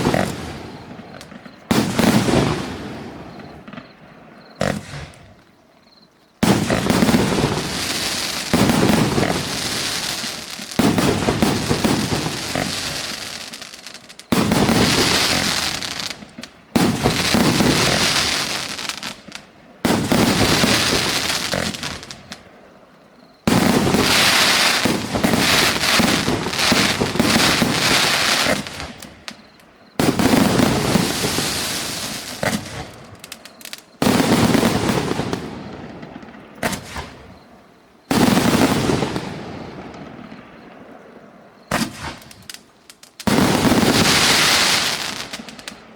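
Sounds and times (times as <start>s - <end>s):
fireworks crackling and fizzing: 0.0s - 5.6s, 6.4s - 45.9s
fireworks launching with bangs: 0.0s - 5.6s, 6.4s - 45.9s.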